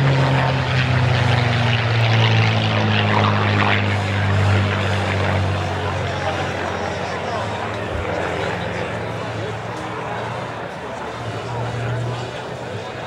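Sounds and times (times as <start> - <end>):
propeller airplane droning overhead: 0.0 - 13.0.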